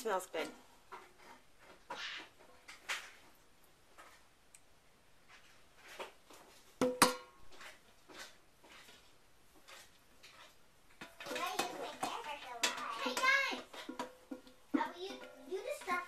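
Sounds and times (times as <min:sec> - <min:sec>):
spatula scraping metal pot: 0:00.0 - 0:03.2, 0:05.8 - 0:16.0.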